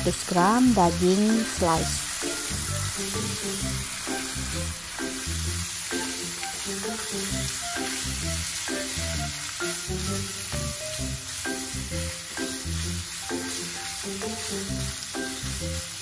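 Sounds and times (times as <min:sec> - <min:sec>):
background music: 0:00.0 - 0:16.0
beef and garlic sizzling: 0:00.0 - 0:16.0
spatula stirring in pan: 0:00.4 - 0:16.0.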